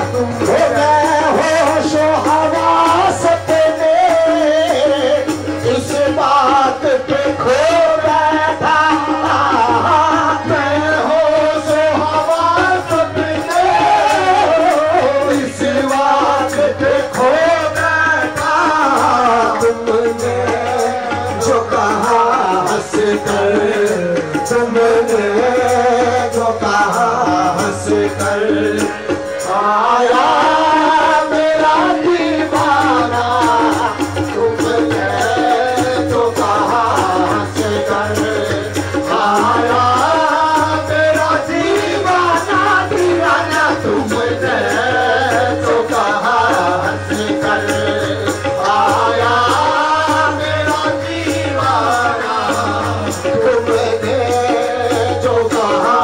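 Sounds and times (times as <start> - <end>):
hand drum playing: 0.0 - 56.0
harmonium chords: 0.0 - 56.0.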